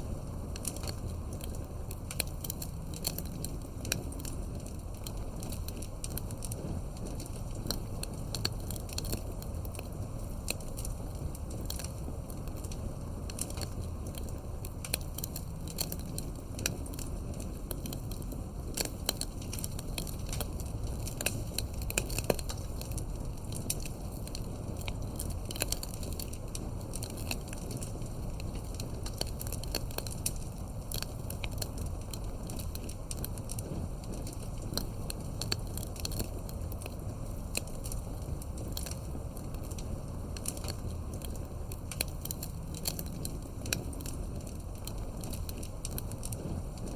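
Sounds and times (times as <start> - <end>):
burning logs crackling and popping: 0.0 - 46.9
low rush of flames: 0.0 - 46.9.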